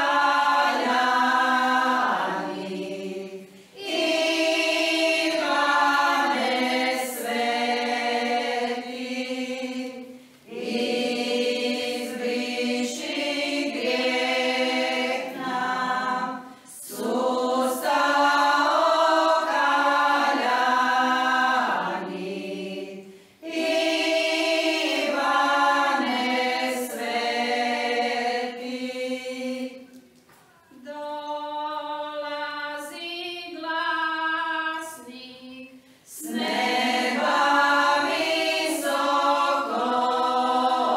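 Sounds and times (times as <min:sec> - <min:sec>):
women's choir singing a hymn: 0:00.0 - 0:30.1, 0:30.7 - 0:40.9.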